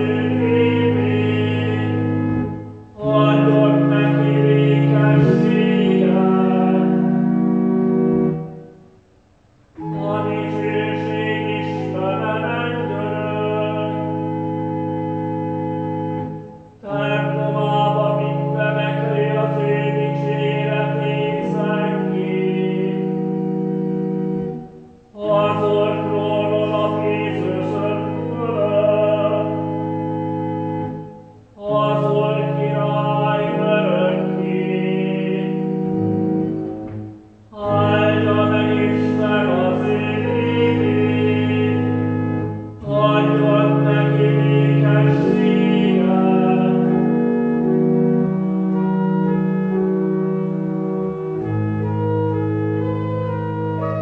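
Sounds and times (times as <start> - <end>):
person singing a psalm: 0.0 - 8.5, 9.8 - 36.7, 37.4 - 50.7
pipe organ chords: 0.0 - 54.0.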